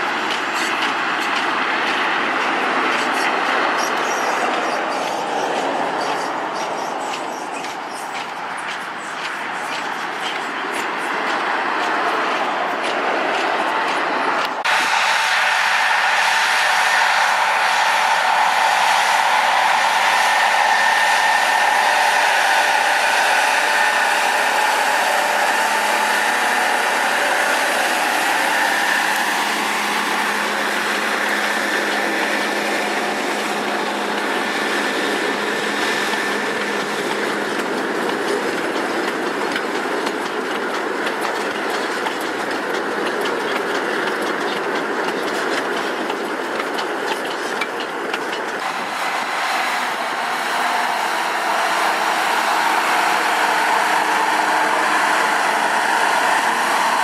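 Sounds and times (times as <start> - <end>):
rail clicking: 0.0 - 57.0
train wheels rolling on rail: 0.0 - 57.0.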